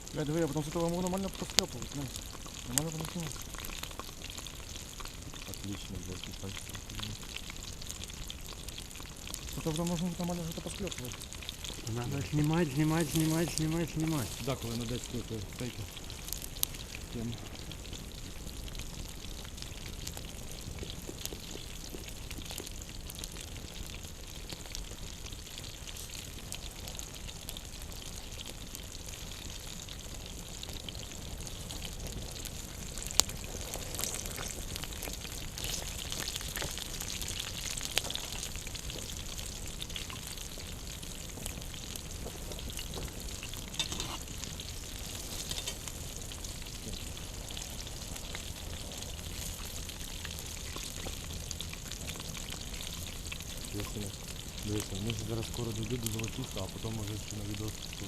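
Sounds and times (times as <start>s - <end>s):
campfire crackling and hissing: 0.0s - 58.0s.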